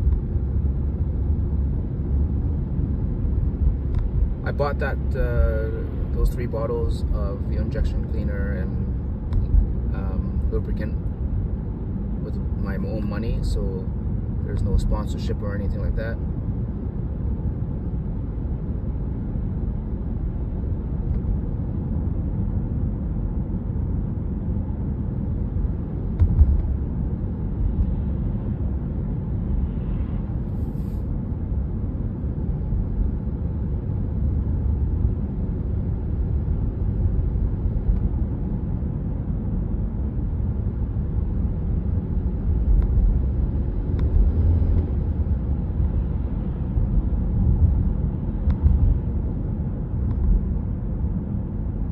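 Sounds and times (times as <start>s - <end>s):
car engine rumble: 0.0s - 51.9s
road noise: 0.0s - 51.9s.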